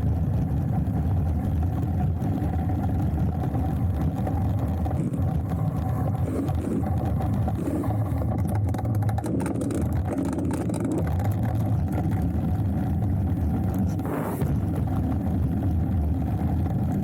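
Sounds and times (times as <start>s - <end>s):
bike tyres rolling on trail: 0.0s - 17.0s
bike crackles and clicks: 0.7s - 17.0s.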